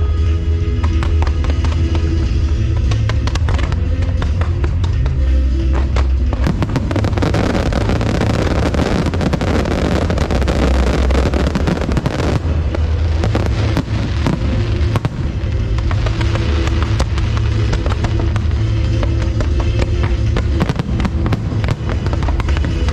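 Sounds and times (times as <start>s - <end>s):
background music: 0.0s - 22.9s
fireworks bangs and crackling: 0.0s - 22.9s.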